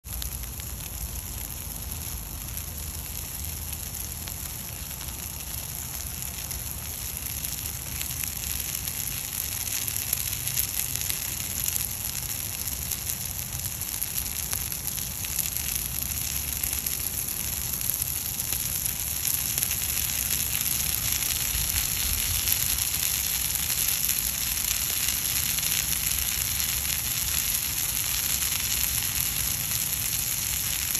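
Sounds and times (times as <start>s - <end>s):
fire crackling and hissing: 0.0s - 30.9s.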